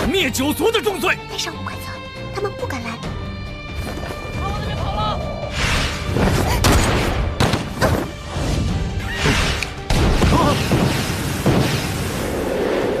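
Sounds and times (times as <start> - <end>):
dramatic soundtrack music: 0.0 - 13.0.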